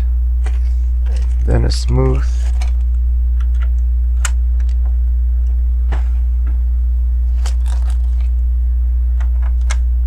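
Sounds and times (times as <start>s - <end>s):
loud low electrical hum: 0.0s - 10.0s.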